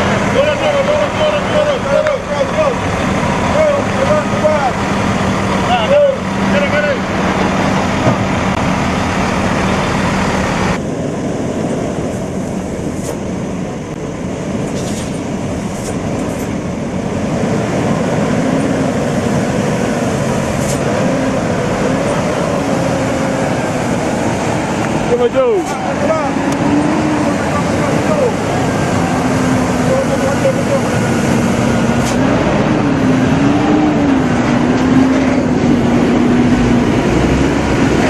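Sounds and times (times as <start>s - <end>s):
road noise: 0.0s - 38.0s
truck engine running: 0.0s - 38.0s.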